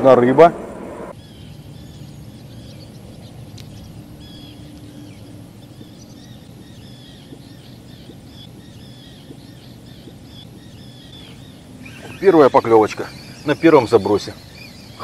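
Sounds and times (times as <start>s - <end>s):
low outdoor rumble: 0.0s - 15.0s
small birds chirping: 1.1s - 15.0s.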